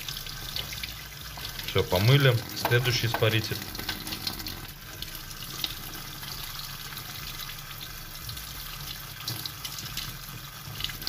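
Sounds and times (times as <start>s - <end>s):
tap water running into sink: 0.0s - 11.0s
water splashing in steel sink: 0.0s - 11.0s.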